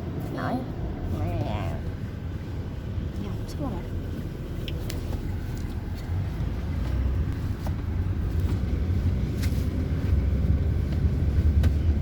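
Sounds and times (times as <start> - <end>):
road vehicle rumbling: 0.0 - 12.0.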